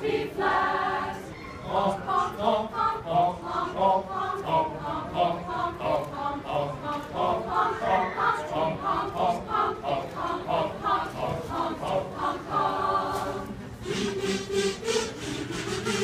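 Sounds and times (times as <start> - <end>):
mixed choir singing: 0.0 - 16.0.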